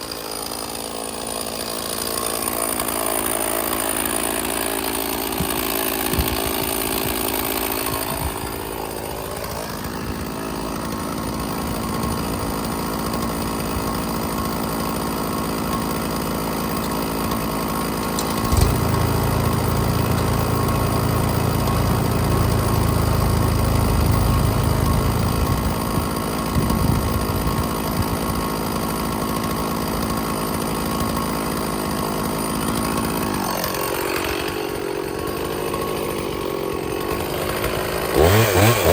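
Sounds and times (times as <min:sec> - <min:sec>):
chainsaw cutting logs: 0:00.0 - 0:38.9.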